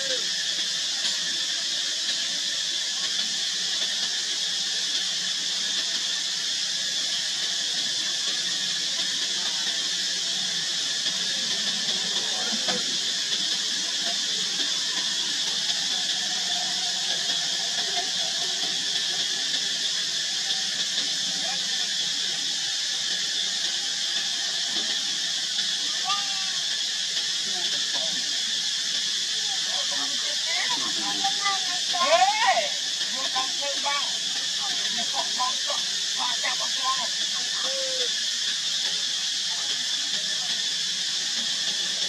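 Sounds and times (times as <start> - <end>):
high-pitched droning hiss: 0.0 - 42.0.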